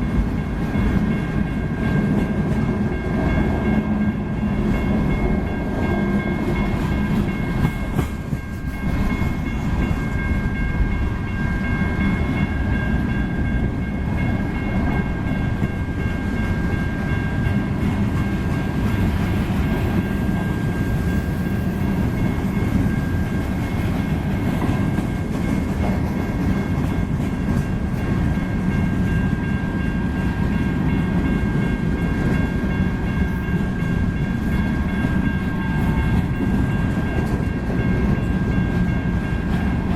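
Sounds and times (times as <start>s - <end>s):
freight train cars rumbling: 0.0s - 39.9s.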